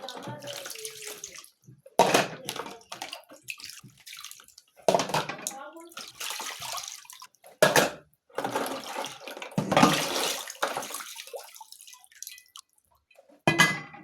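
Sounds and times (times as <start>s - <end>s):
water splashing in a basin: 0.0s - 7.8s, 8.4s - 13.0s.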